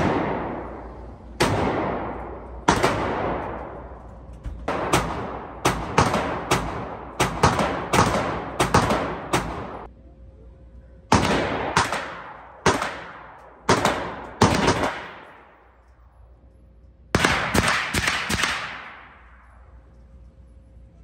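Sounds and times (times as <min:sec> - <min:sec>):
handgun shots echoing indoors: 0:00.0 - 0:09.9, 0:11.1 - 0:15.9, 0:17.2 - 0:19.8.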